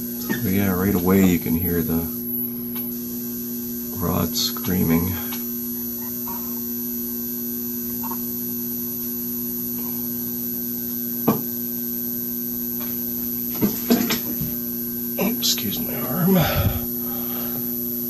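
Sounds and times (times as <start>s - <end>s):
electrical hum: 0.0s - 18.0s
high whine: 0.0s - 18.0s.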